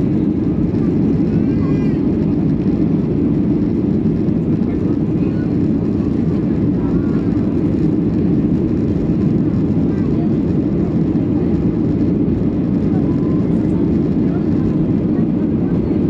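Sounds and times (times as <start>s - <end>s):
airplane cabin engine drone: 0.0s - 16.0s.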